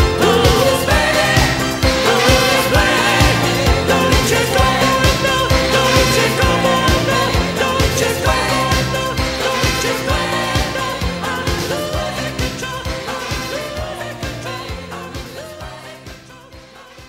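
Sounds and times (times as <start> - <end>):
song with singing over a beat: 0.0 - 17.0.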